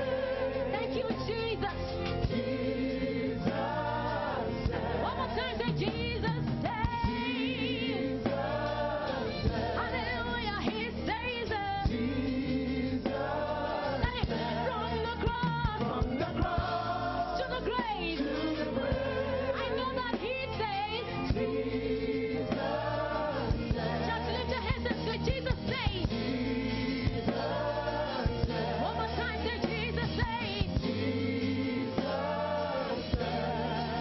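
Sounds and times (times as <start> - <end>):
band accompaniment: 0.0 - 34.0
singers with vibrato: 0.0 - 34.0.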